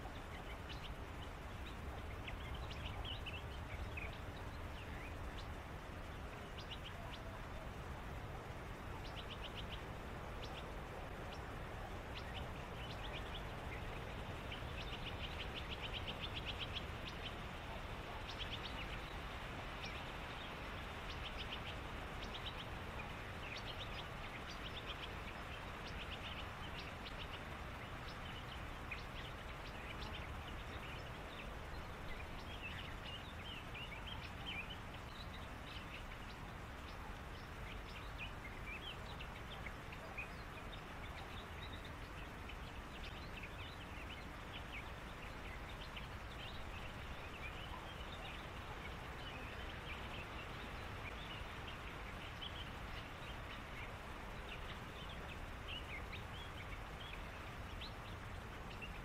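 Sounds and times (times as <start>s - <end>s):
birds calling: 0.0s - 59.0s
low background noise: 0.0s - 59.0s
rapid rattling bird trills: 0.0s - 59.0s.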